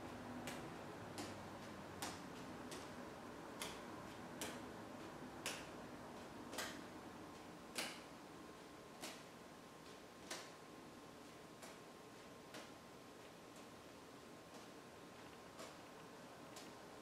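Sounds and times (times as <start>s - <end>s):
juggling balls clicking together: 0.3s - 8.1s, 8.9s - 10.6s, 11.2s - 13.8s, 14.4s - 16.8s.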